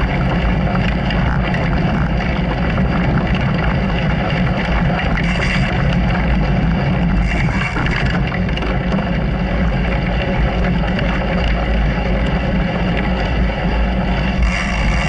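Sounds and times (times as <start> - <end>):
driving noise: 0.0 - 15.0
vehicle engine running: 0.0 - 15.0.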